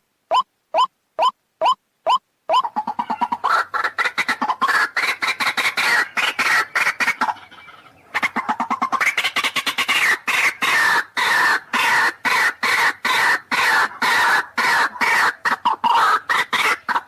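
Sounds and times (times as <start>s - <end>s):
bird harsh croaking calls: 0.3s - 17.0s.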